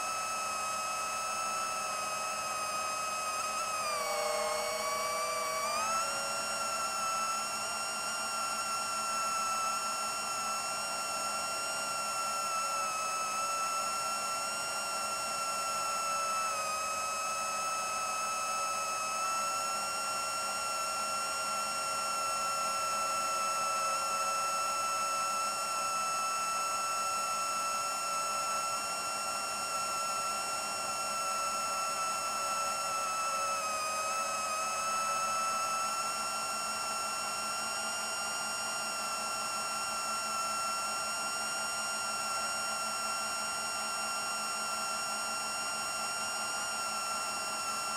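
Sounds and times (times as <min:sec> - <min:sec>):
quadcopter motors whining: 0:00.0 - 0:47.9.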